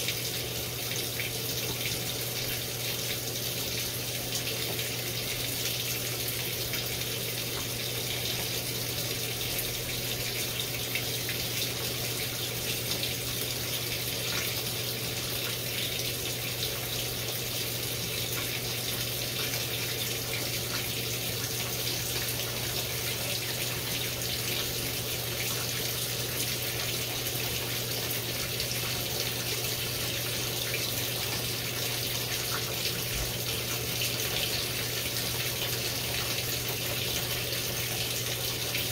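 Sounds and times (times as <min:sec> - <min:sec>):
washing machine low hum: 0:00.0 - 0:38.9
washing machine water rushing: 0:00.0 - 0:38.9.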